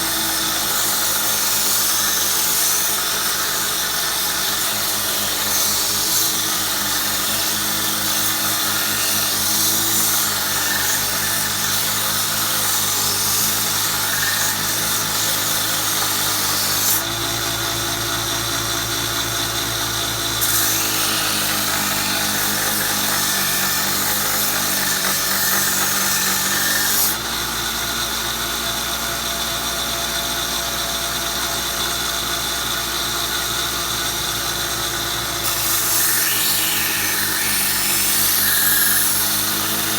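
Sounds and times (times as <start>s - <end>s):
belt sander grinding steel: 0.0s - 39.9s.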